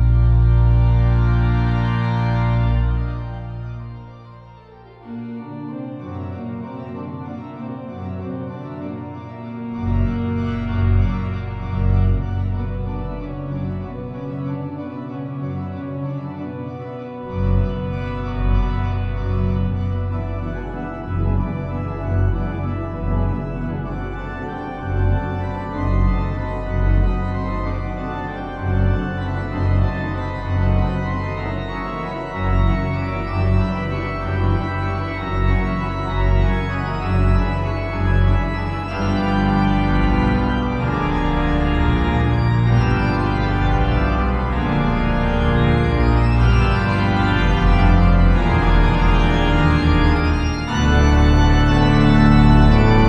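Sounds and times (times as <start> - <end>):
organ music: 0.0 - 53.0.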